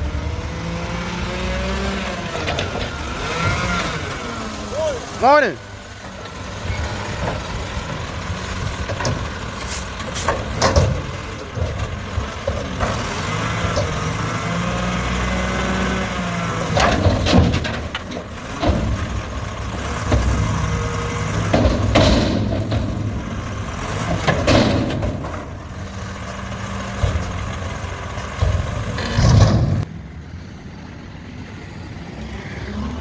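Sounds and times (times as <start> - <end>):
garbage truck engine: 0.0 - 33.0
loud sudden truck bangs: 0.1 - 29.9.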